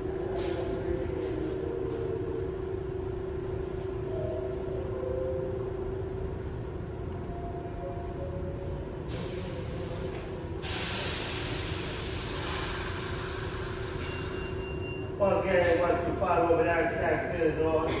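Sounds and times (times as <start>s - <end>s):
constant hum: 0.0s - 18.0s
subway train low rumble: 0.0s - 18.0s.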